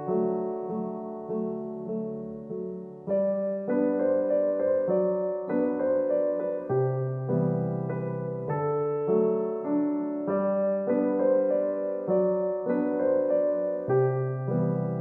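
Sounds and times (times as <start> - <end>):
soft solo piano piece: 0.0 - 15.0.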